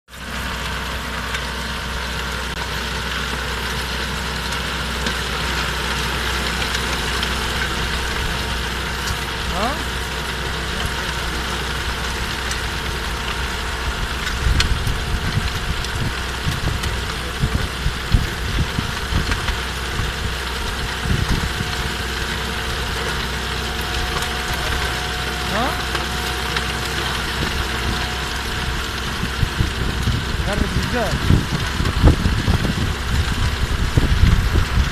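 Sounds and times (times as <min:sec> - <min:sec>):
rotavator churning soil: 0:00.1 - 0:34.9
tractor engine running under load: 0:00.1 - 0:34.9.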